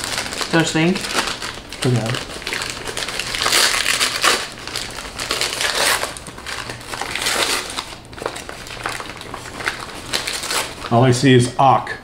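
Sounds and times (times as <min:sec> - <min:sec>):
wrapping paper crinkling and tearing: 0:00.0 - 0:11.2.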